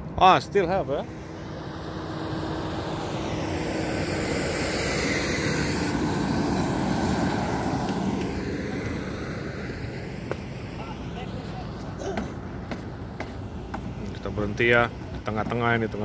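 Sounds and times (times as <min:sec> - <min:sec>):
truck driving past: 0:00.4 - 0:15.3.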